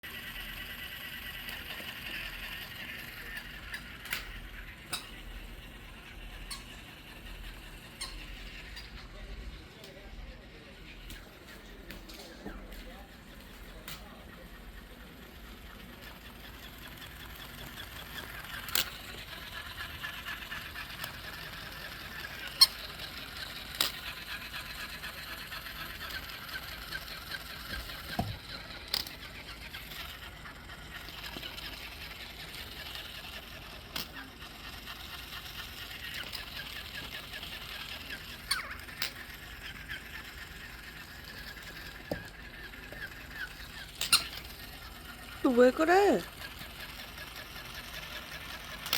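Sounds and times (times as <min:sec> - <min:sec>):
squeaky toy play noise: 0:00.3 - 0:09.5, 0:14.5 - 0:48.9.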